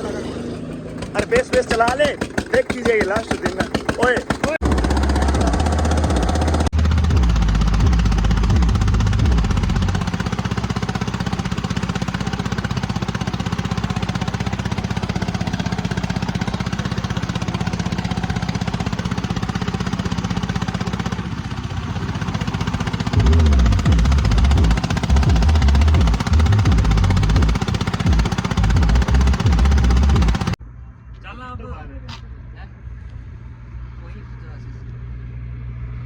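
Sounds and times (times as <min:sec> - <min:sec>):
diesel engine idling with knock: 0:00.6 - 0:30.6.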